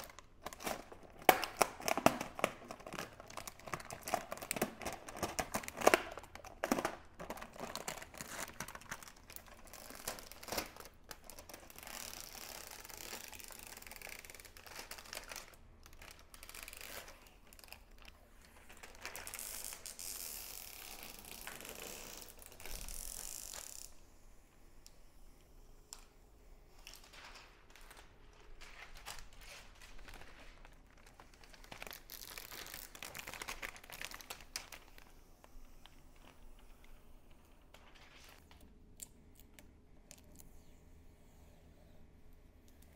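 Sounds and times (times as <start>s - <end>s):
plastic packaging crinkling: 0.0s - 24.0s, 26.8s - 35.1s, 35.8s - 38.7s.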